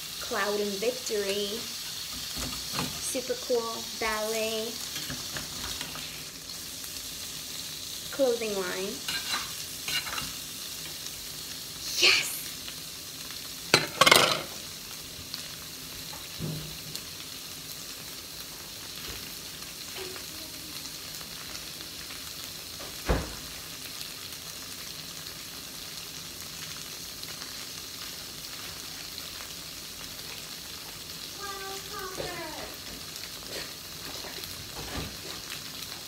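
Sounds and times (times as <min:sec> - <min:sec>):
tofu sizzling in oil: 0:00.0 - 0:36.0.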